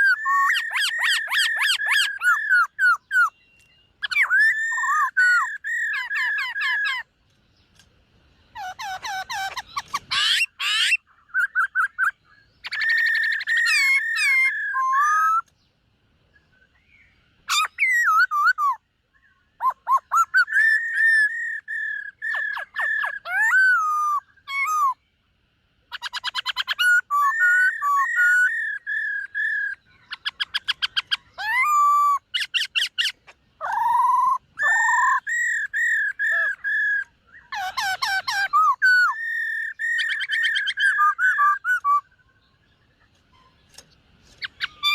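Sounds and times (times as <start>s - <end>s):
bird singing whistled phrases: 0.0s - 7.1s, 8.5s - 15.5s, 16.3s - 25.0s, 25.9s - 42.6s.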